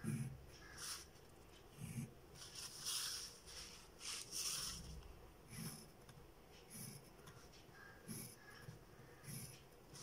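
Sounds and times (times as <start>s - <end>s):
pencil scratching on paper: 0.0s - 6.0s, 6.6s - 10.0s.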